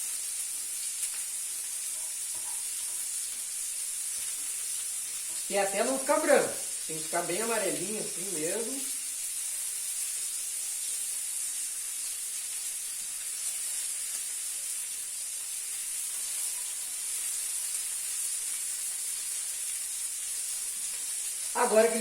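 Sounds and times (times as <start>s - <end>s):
patties sizzling in frying pan: 0.0s - 22.0s.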